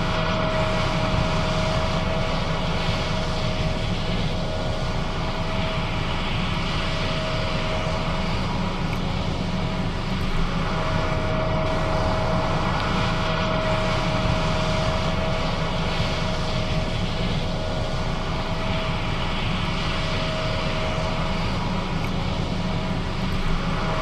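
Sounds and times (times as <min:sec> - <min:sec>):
combine harvester drone: 0:00.0 - 0:24.0
machinery whine: 0:00.0 - 0:24.0.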